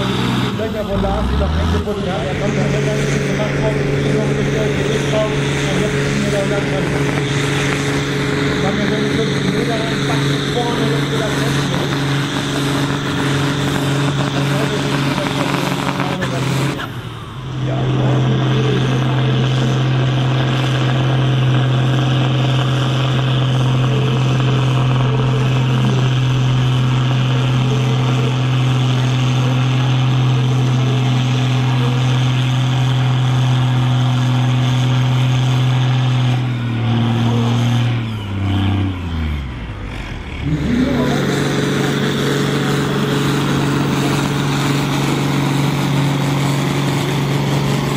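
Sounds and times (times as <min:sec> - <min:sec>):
tractor diesel engine at high revs: 0:00.0 - 0:47.9.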